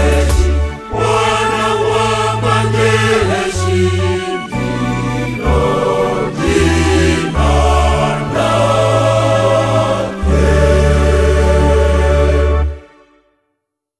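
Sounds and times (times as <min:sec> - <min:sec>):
church choir singing: 0:00.0 - 0:13.1.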